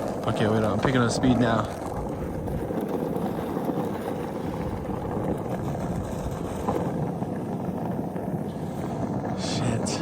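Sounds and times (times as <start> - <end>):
skateboard wheels rolling on ice: 0.0 - 10.0.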